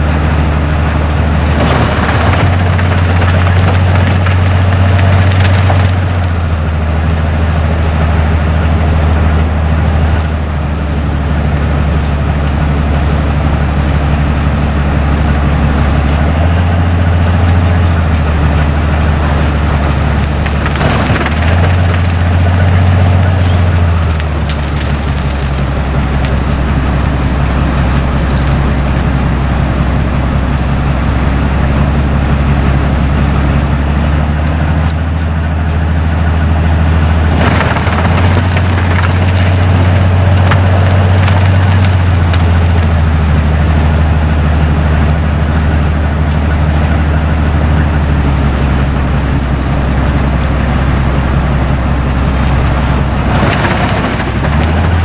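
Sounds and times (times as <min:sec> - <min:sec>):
heavy engine droning: 0:00.0 - 0:55.0.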